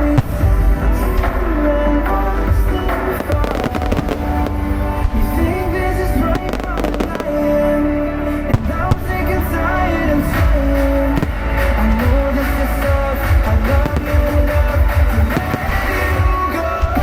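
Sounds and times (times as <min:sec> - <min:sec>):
fireworks bursting and crackling: 0:00.0 - 0:17.0
loud pop music: 0:00.0 - 0:17.0.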